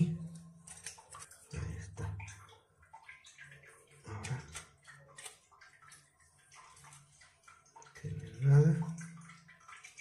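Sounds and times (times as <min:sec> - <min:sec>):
toilet tank refilling: 0:00.0 - 0:10.0.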